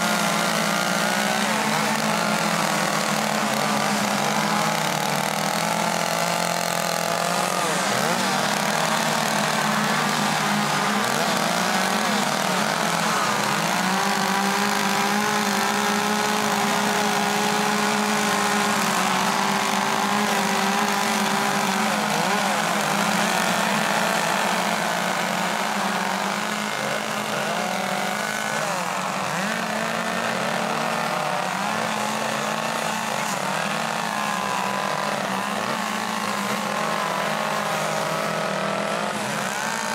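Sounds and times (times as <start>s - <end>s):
chainsaws revving: 0.0s - 39.9s.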